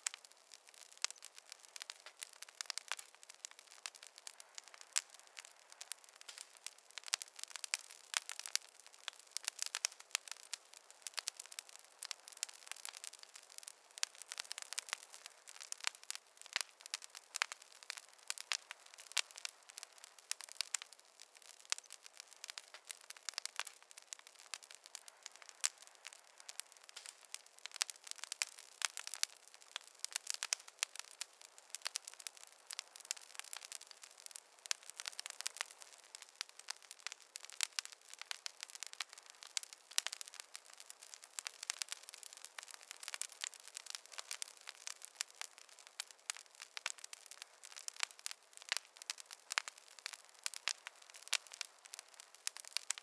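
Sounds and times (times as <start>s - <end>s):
faint hiss: 0.0s - 53.0s
wood fire crackling and popping: 0.0s - 53.0s.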